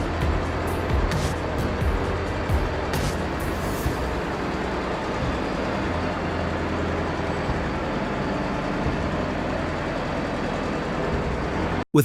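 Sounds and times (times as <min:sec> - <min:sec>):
vehicle engine and road rumble: 0:00.0 - 0:11.8.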